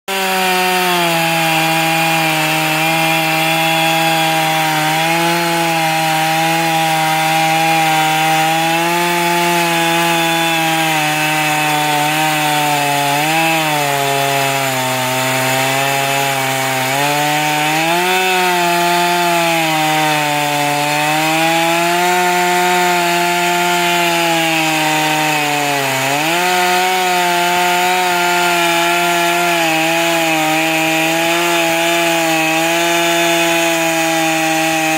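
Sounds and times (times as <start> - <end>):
sawmill humming: 0.1 - 34.9.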